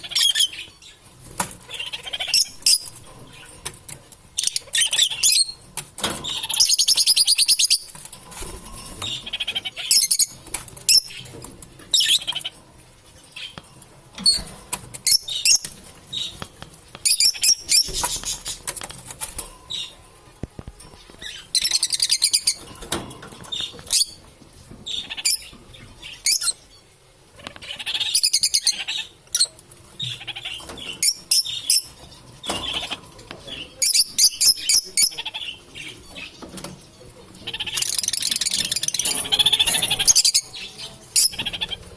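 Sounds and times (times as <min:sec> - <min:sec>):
lovebirds chattering: 0:00.0 - 0:41.9.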